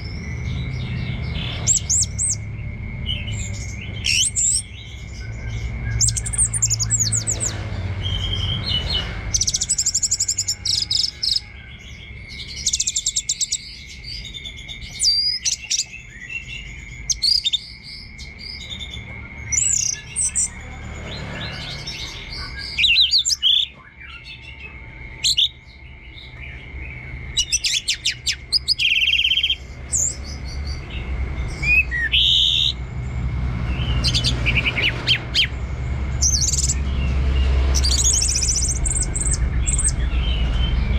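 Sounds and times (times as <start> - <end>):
thrush singing: 0.0 - 40.9.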